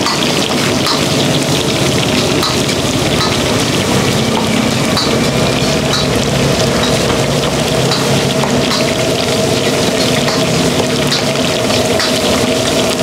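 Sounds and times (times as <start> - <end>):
hot oil sizzling in fryer: 0.0 - 13.0.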